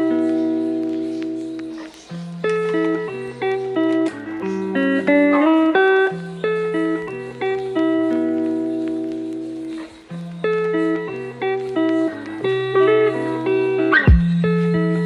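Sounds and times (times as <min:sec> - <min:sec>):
mellow lo-fi guitar music: 0:00.0 - 0:15.0.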